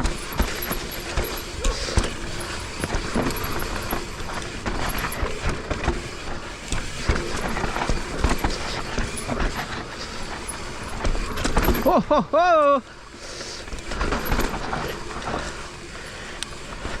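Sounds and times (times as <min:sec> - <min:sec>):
bike chain and frame clattering: 0:00.0 - 0:17.0.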